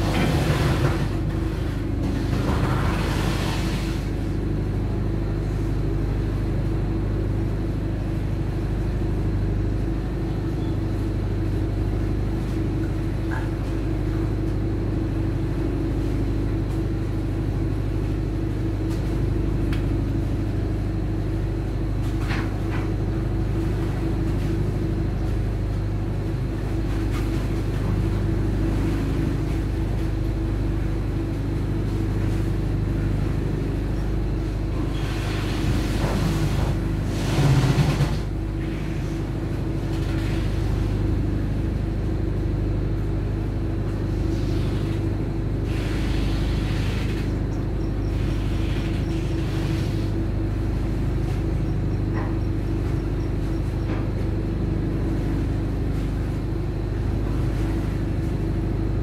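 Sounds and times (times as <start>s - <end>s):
ship's engine droning: 0.0s - 59.0s.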